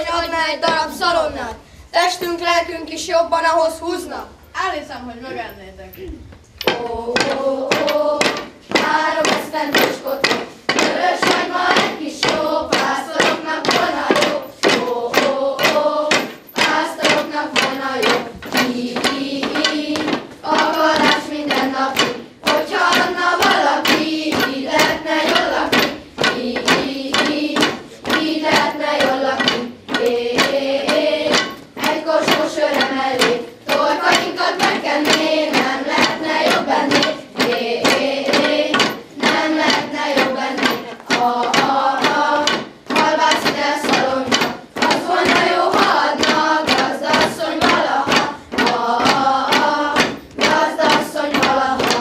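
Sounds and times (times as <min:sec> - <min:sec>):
children singing folk song: 0:00.0 - 0:04.4, 0:06.4 - 0:52.0
wooden staffs knocking on tile: 0:06.6 - 0:52.0.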